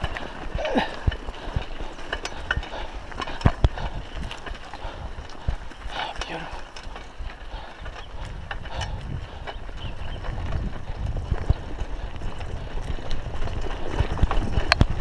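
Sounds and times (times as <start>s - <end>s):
mountain bike rolling on dirt trail: 0.0s - 15.0s.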